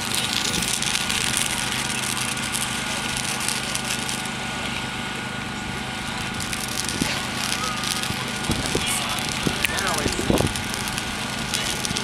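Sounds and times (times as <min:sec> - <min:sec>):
fireworks fountain hissing: 0:00.0 - 0:12.0
low engine-like hum: 0:00.0 - 0:12.0.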